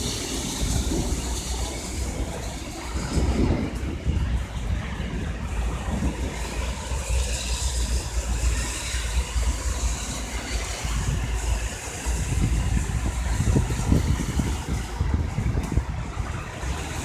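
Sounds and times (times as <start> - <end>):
traffic on wet street: 0.0 - 17.0.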